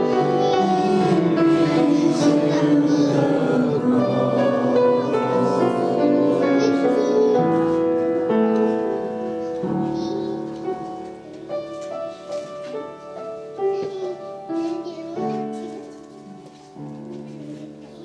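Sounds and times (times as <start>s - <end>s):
worship music on keyboard: 0.0s - 18.0s.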